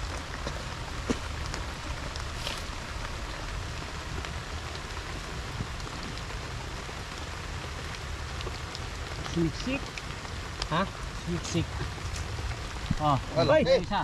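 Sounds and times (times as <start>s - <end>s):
raindrop ticks: 0.0s - 14.0s
steady rain hiss: 0.0s - 14.0s.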